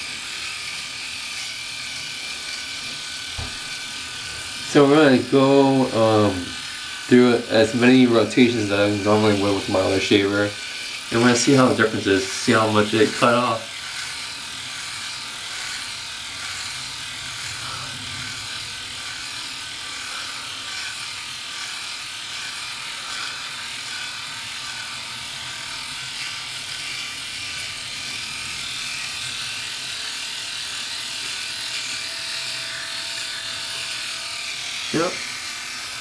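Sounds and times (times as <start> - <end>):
electric shaver whirring: 0.0 - 36.0.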